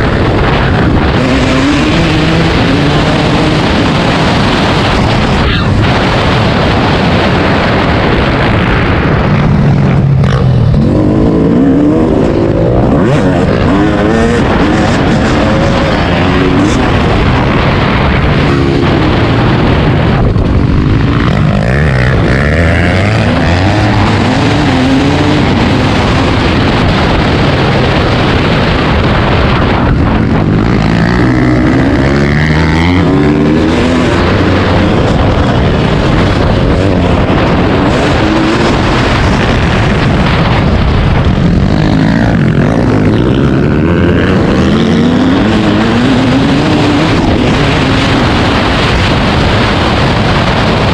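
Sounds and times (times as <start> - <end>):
dirt bike engine running hard: 0.0 - 50.9
loud rushing noise: 0.0 - 50.9.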